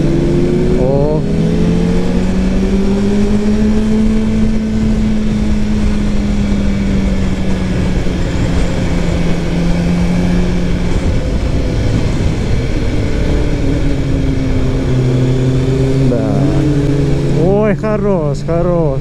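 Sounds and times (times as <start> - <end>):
motorcycle engines rumbling: 0.0 - 19.0.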